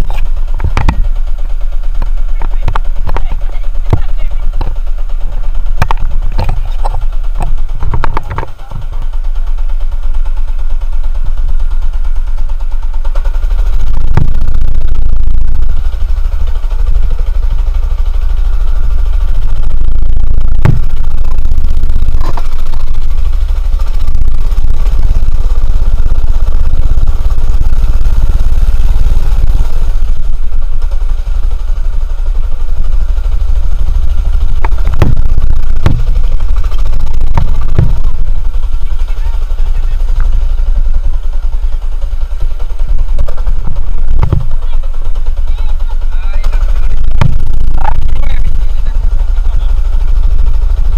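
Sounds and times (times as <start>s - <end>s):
small engine running: 0.0s - 50.9s.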